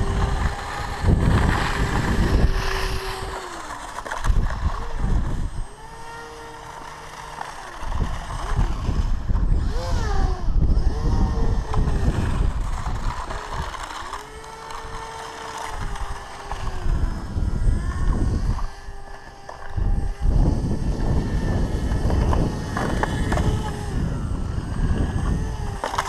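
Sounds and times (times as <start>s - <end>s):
electric motor and propeller whining: 0.0s - 26.0s.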